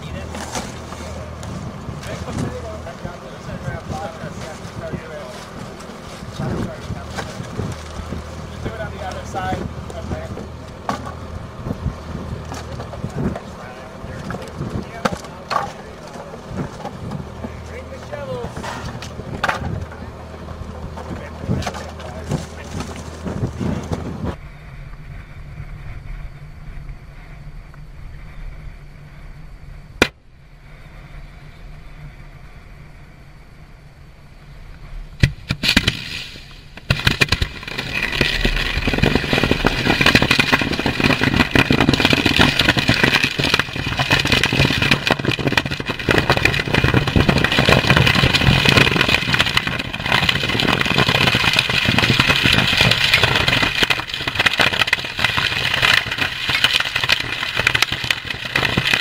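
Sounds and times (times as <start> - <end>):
burning ammunition hissing and popping: 0.0 - 25.2, 34.7 - 59.0.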